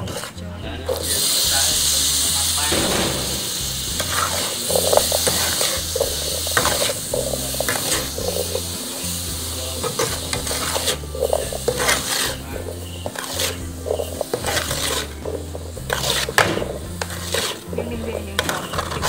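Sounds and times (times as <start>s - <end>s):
syrup sizzling: 0.0s - 19.0s
metal spatula scraping pan: 2.7s - 19.0s.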